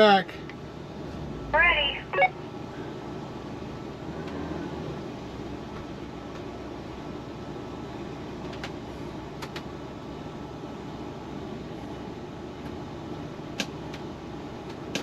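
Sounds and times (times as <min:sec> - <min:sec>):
motorhome engine rumbling: 0:00.0 - 0:14.9.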